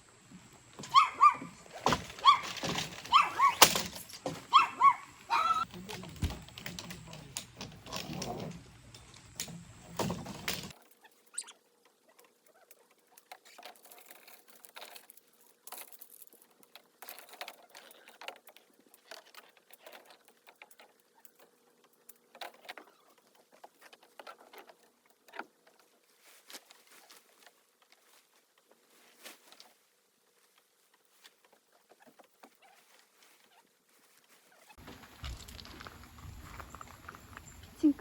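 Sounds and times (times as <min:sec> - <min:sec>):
rustles: 0:00.0 - 0:38.0.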